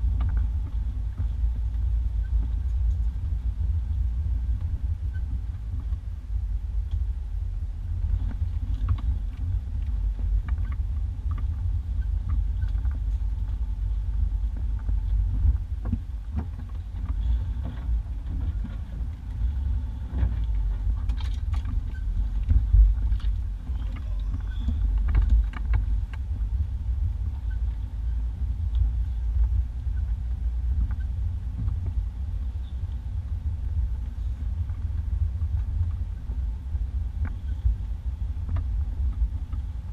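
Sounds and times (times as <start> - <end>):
engine and drivetrain rumble: 0.0 - 39.9.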